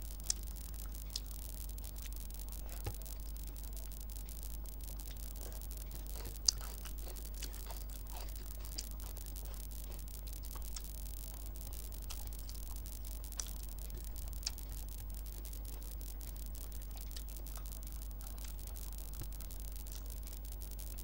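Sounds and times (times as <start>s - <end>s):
fingers squishing food: 0.0s - 4.0s, 4.8s - 20.4s
chewing: 0.0s - 21.0s
low hum: 0.0s - 21.0s.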